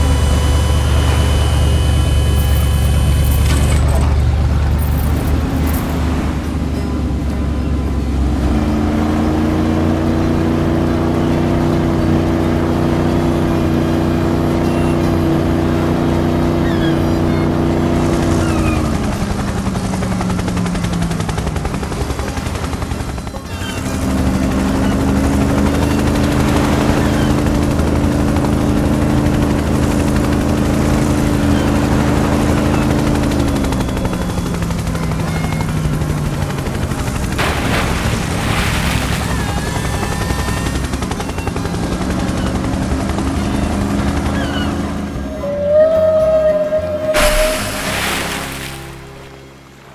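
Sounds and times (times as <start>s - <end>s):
vehicle engine winding down: 0.0s - 49.5s.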